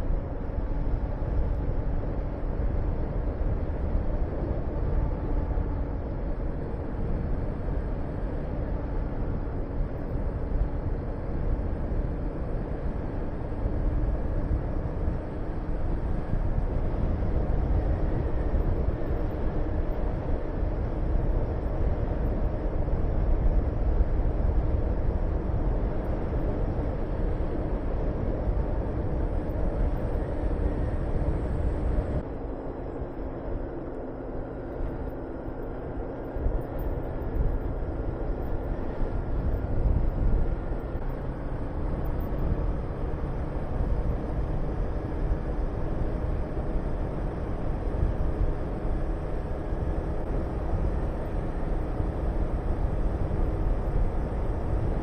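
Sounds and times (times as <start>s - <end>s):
wind over microphone: 0.0s - 55.0s.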